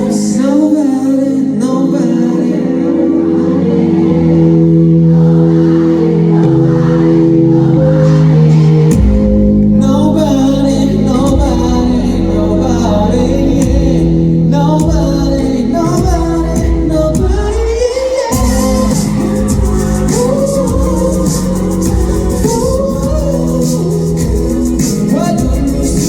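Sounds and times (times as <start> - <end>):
live pop song through pa: 0.0 - 26.0.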